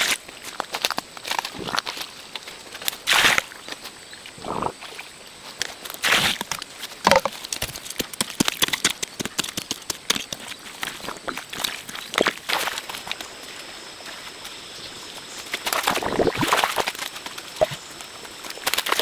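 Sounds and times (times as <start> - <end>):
crunching on dry ground: 0.0 - 19.0.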